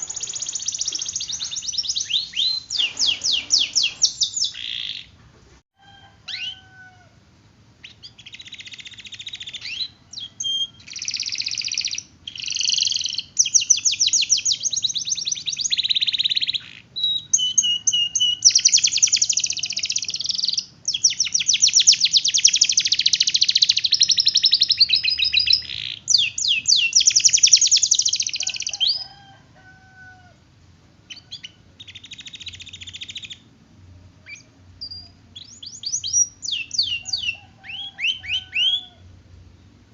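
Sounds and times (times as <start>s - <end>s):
canary singing trills and chirps: 0.0s - 5.2s, 6.3s - 6.7s, 7.8s - 29.3s, 31.1s - 33.6s, 34.2s - 39.1s.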